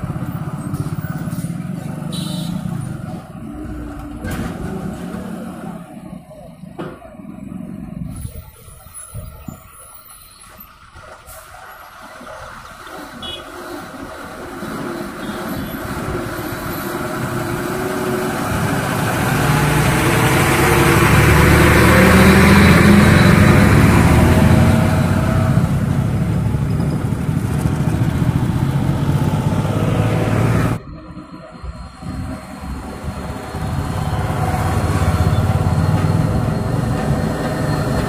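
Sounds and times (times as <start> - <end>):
heavy trucks driving past: 0.0 - 9.4, 10.2 - 38.0
traffic noise: 0.0 - 38.0.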